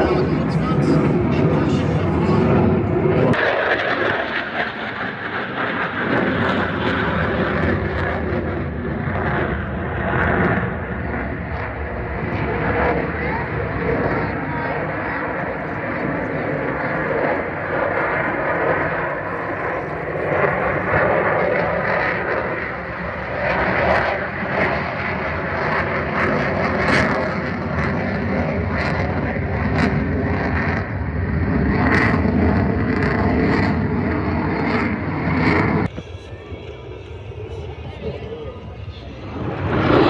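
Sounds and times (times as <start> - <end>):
aircraft engines roaring: 0.0 - 40.0.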